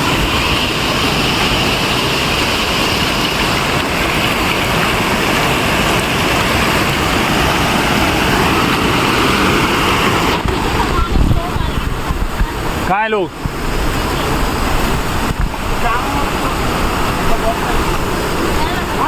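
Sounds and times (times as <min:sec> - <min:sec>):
waterfall and stream rushing: 0:00.0 - 0:19.0.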